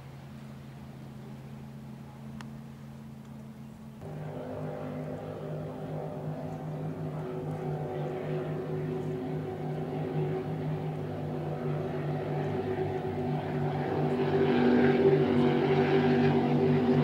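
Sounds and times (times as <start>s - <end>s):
motorboat engines droning: 0.0s - 17.0s.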